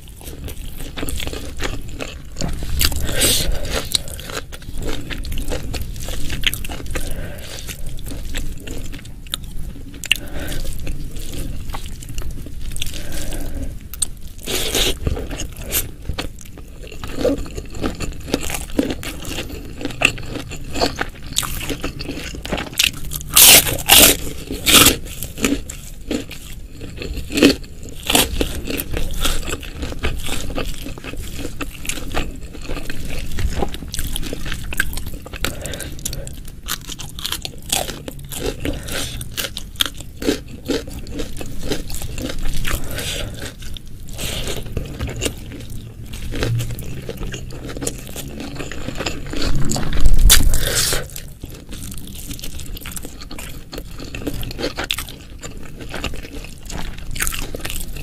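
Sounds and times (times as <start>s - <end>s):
wet chewing: 0.0s - 58.0s
crunchy bites: 0.2s - 58.0s.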